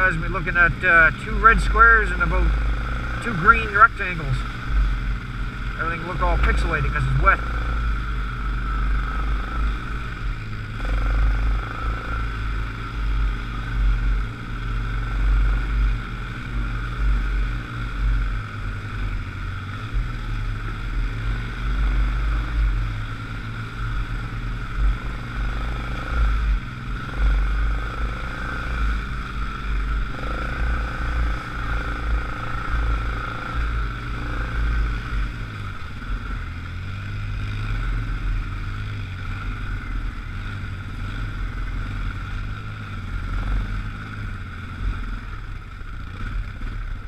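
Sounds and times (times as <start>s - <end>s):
atv engine running at low speed: 0.0s - 47.0s.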